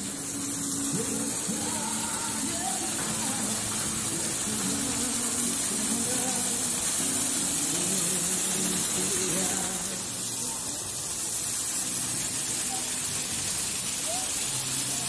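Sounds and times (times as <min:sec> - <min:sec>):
waterfall splashing into pond: 0:00.0 - 0:15.0.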